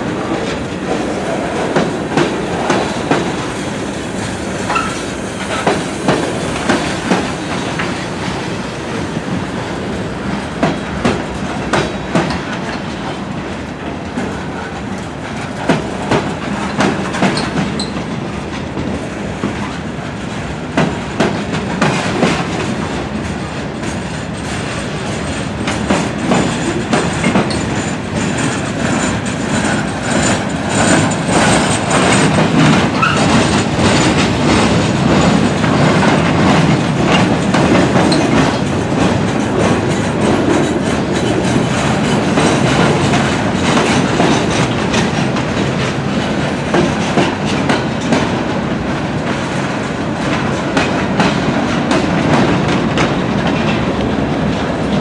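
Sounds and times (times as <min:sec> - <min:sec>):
train wheels rumbling on track: 0:00.0 - 0:55.0
wheels clicking over rail joints: 0:10.6 - 0:55.0.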